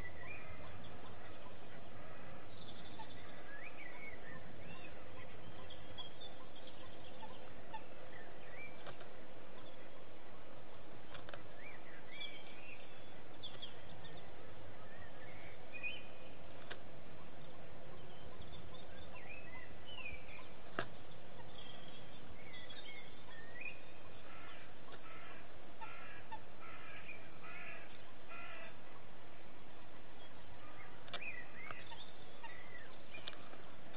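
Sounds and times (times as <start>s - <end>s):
small birds calling: 0.0s - 33.9s.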